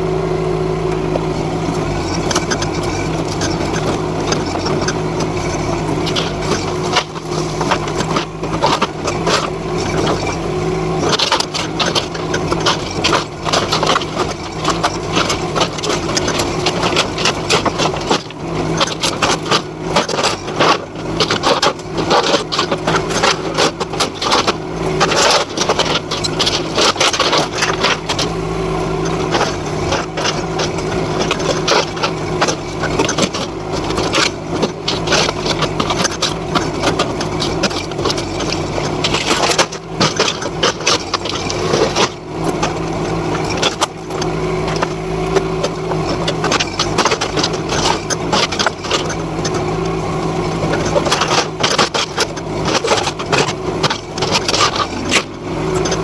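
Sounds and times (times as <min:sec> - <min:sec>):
excavator engine running: 0:00.0 - 0:56.0
debris clattering and scraping: 0:00.9 - 0:56.0.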